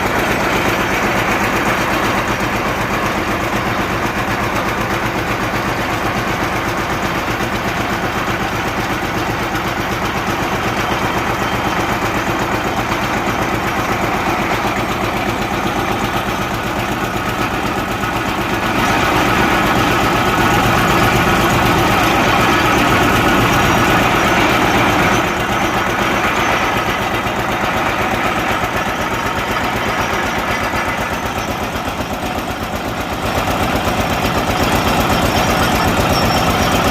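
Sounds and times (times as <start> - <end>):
drilling machine engine running: 0.0 - 36.9.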